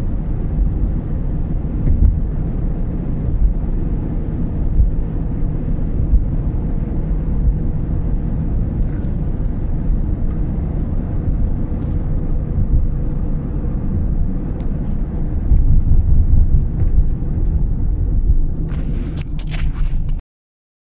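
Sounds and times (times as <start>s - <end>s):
car tyre and engine rumble: 0.0s - 20.2s.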